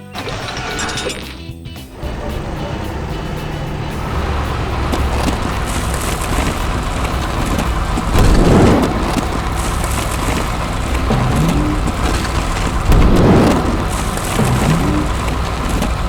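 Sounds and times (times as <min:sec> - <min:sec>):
cartoon vehicle rumbling: 0:00.0 - 0:16.0.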